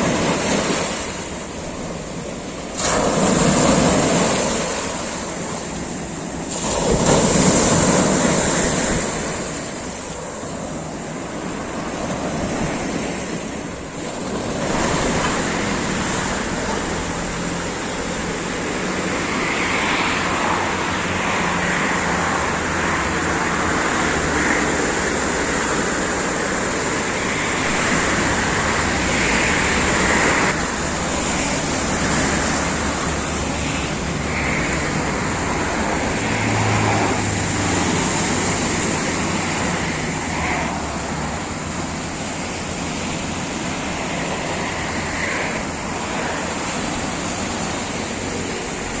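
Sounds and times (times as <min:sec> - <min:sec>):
road traffic: 0:00.0 - 0:49.0
surf breaking on shore: 0:00.0 - 0:49.0.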